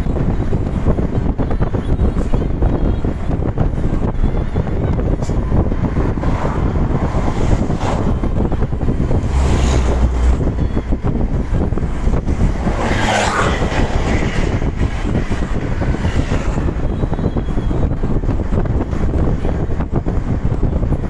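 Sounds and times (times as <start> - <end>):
road noise from moving vehicle: 0.0 - 21.0
truck passing: 0.0 - 21.0
wind buffeting microphone: 0.0 - 21.0.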